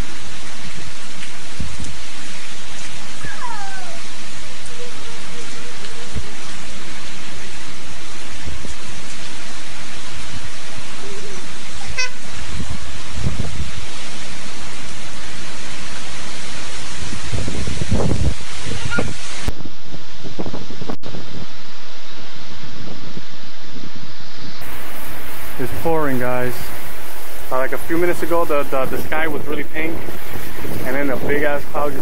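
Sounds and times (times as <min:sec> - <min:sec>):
wind buffeting microphone: 0:00.0 - 0:15.6, 0:16.5 - 0:21.4, 0:24.6 - 0:32.0
heavy rain pouring: 0:00.0 - 0:22.7, 0:24.6 - 0:32.0.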